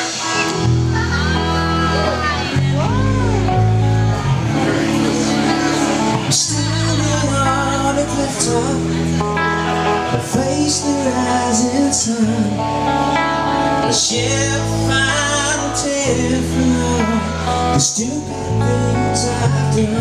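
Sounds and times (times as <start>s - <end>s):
person singing: 0.0s - 20.0s
strummed guitar: 0.0s - 20.0s
held low notes: 0.4s - 20.0s.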